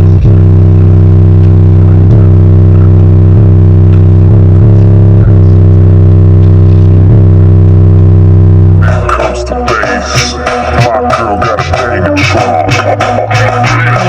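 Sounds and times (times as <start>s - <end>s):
bass-heavy music through subwoofer: 0.0s - 14.0s.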